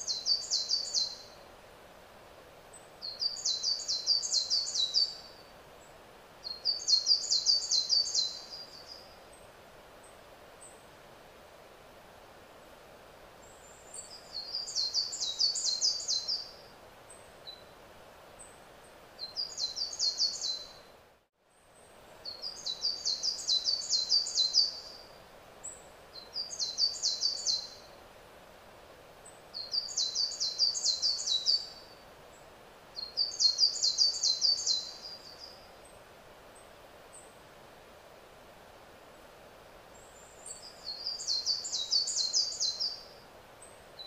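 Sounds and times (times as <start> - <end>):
background hiss: 0.0 - 44.0.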